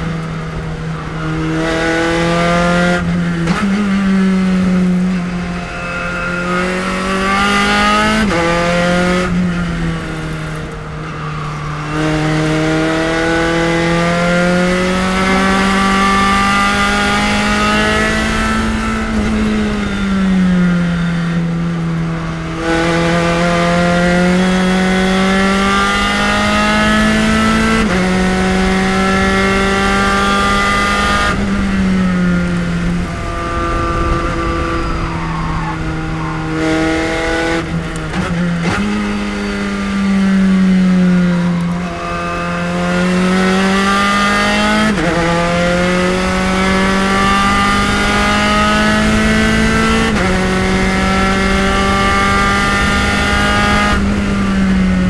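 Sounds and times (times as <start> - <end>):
race car engine revving and shifting: 0.0 - 55.0.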